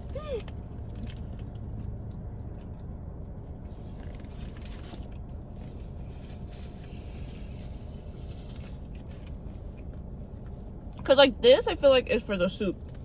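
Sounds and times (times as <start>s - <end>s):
rustles and clicks of eating: 0.0s - 11.0s.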